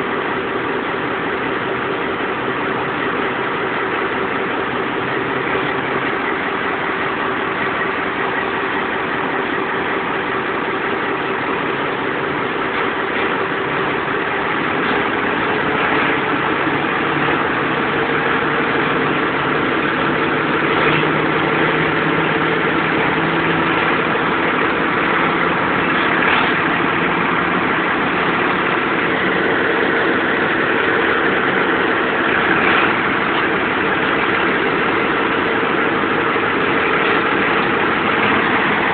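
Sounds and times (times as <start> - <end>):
diesel locomotive engine working hard: 0.0 - 38.9.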